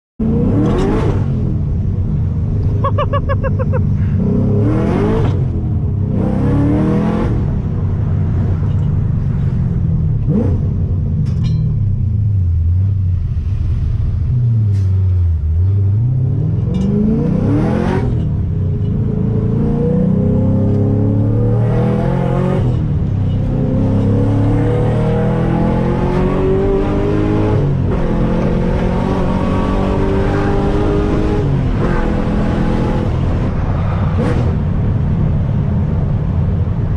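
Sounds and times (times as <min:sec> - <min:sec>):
car engine accelerating: 0:00.2 - 0:11.3, 0:12.2 - 0:36.9.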